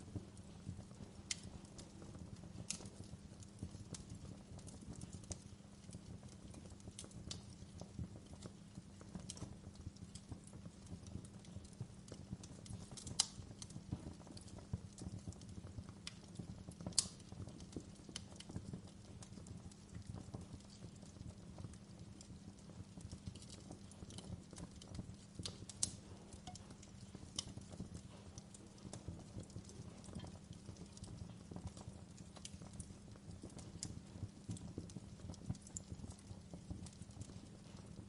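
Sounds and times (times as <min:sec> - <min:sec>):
burning logs crackling: 0:00.0 - 0:38.0
fire flames rumbling: 0:00.0 - 0:38.0.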